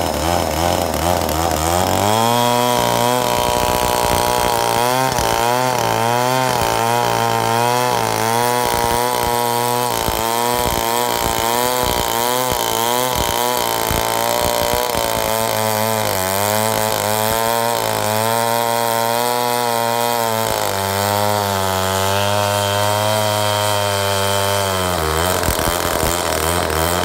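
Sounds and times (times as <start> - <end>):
chainsaw ripping through log: 0.0 - 27.0.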